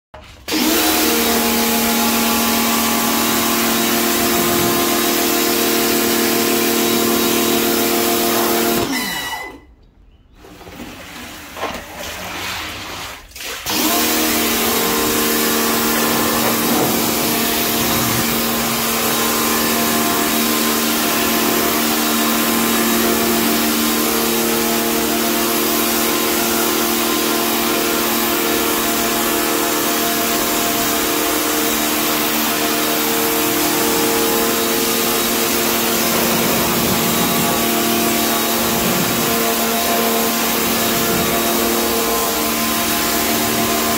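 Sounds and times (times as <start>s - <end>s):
pressure washer motor humming: 0.2s - 9.5s, 13.6s - 43.9s
water spraying from wand: 0.6s - 8.8s, 13.2s - 43.9s.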